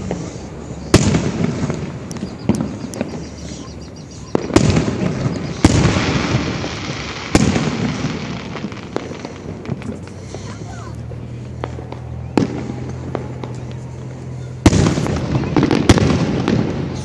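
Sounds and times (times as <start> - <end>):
fireworks booming: 0.0 - 17.0
light firework cracks: 0.0 - 17.0.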